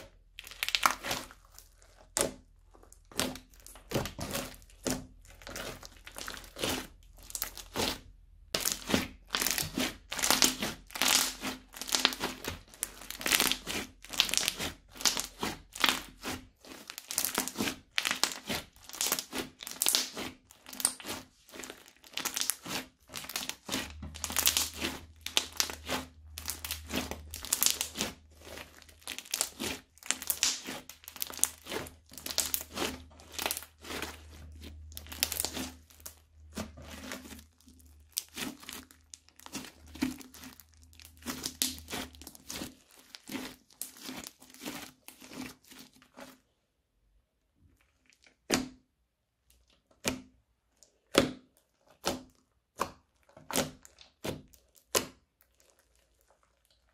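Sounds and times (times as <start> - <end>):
crunchy slime crackling: 0.0 - 46.6, 50.7 - 56.9.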